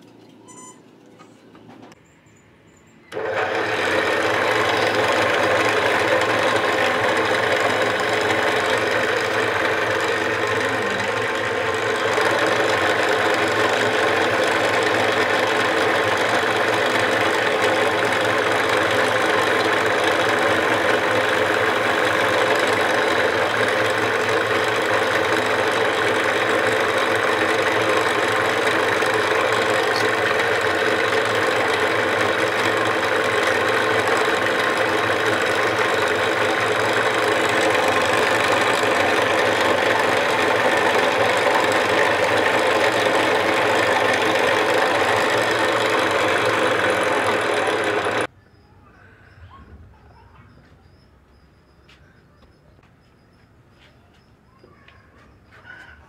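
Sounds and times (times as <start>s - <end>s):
buffing machine motor running: 3.1s - 48.3s.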